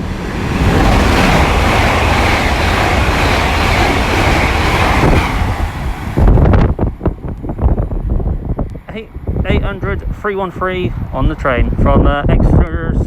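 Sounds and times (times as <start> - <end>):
train passing at speed: 0.0 - 12.7.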